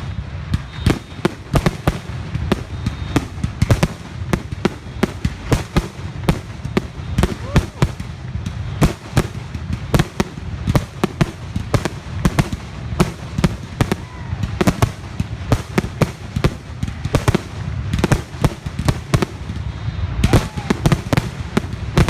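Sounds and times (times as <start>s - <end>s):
continuous low rumble: 0.0s - 22.0s
fireworks bangs and cracks: 0.0s - 22.0s.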